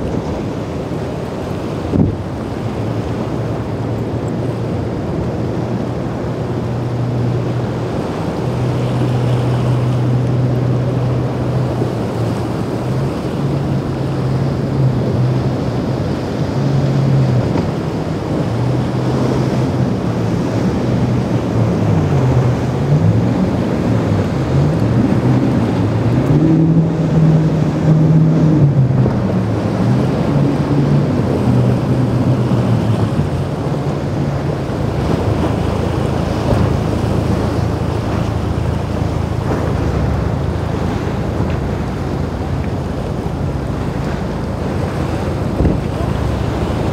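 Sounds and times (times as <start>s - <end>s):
outboard motors running: 0.0s - 46.9s
water rushing off hulls: 0.0s - 46.9s
wind on microphone: 0.0s - 46.9s.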